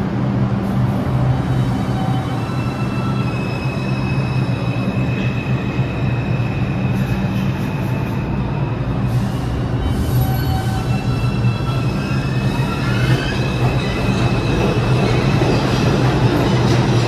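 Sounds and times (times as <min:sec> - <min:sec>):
subway train low rumble: 0:00.0 - 0:17.0
train high whine: 0:00.0 - 0:17.0.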